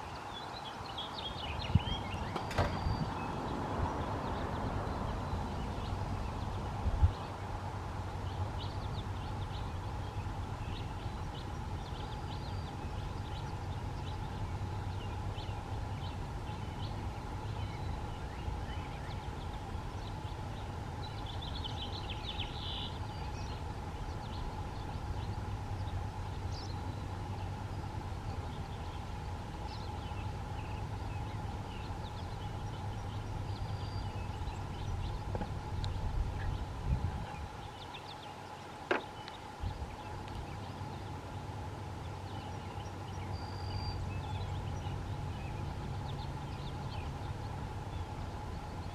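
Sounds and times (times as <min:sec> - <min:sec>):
small birds chirping: 0:00.0 - 0:48.9
steady low hum: 0:00.6 - 0:48.9.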